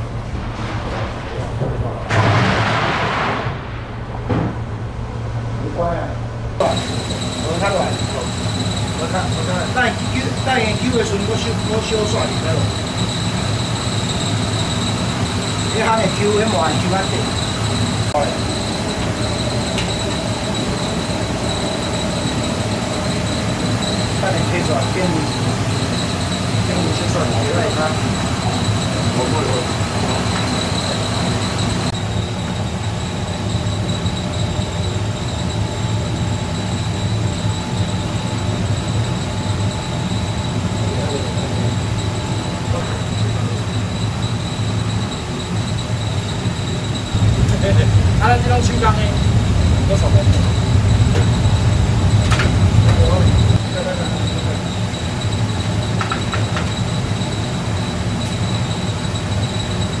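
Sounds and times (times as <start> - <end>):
high whine: 0.0 - 60.0
kitchen machinery running: 0.0 - 60.0.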